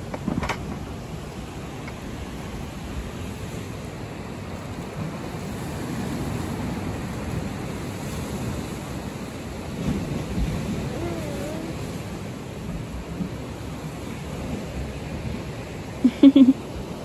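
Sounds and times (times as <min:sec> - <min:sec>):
surf washing against rocks: 0:00.0 - 0:17.0
wind on microphone: 0:00.0 - 0:17.0.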